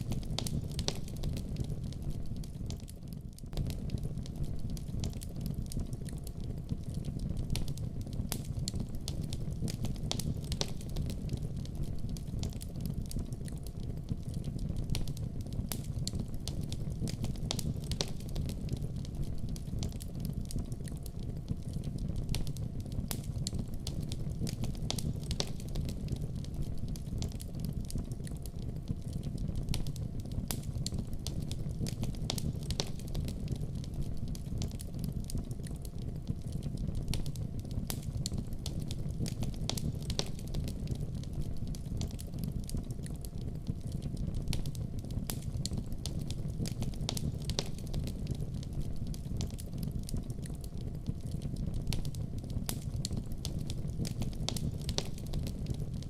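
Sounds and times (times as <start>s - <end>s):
fire crackling and popping: 0.0s - 56.0s
wood fire rumbling: 0.0s - 56.0s.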